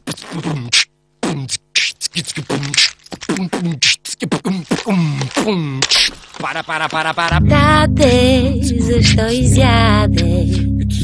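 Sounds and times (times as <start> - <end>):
beatboxing: 0.0 - 7.4, 8.6 - 11.0.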